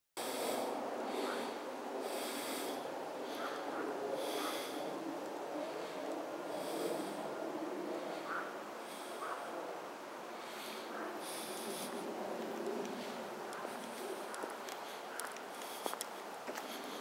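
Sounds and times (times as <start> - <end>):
person breathing hard through nose: 0.2 - 5.0, 5.6 - 9.4, 10.3 - 17.0
steady rushing background noise: 0.2 - 17.0.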